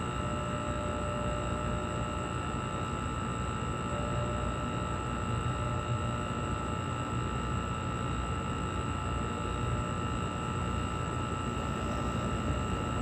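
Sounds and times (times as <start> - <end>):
air conditioner compressor humming: 0.0 - 13.0.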